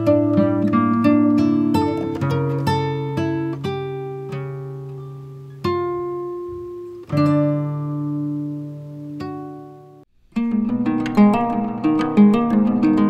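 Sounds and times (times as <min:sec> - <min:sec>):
plucked string notes and chords: 0:00.0 - 0:13.0.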